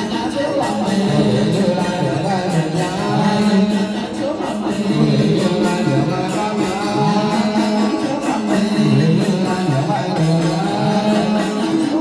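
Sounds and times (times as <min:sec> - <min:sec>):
drum and percussion beat: 0:00.0 - 0:12.0
person singing melody: 0:00.0 - 0:12.0.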